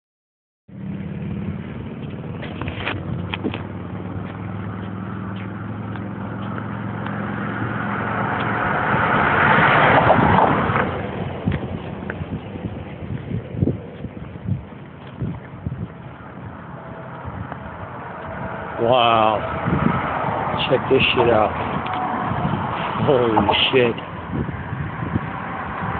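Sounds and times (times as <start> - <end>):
car engine hum: 0.7 - 25.9
vehicle passing: 0.7 - 25.9.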